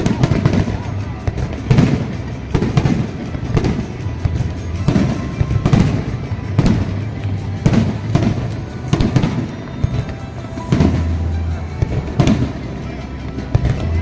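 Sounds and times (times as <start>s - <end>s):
background music: 0.0s - 14.0s
fireworks bursting: 0.0s - 14.0s.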